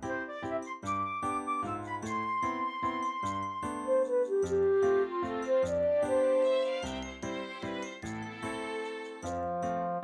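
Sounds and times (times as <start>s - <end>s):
gentle synthesized instrumental music: 0.0s - 10.0s.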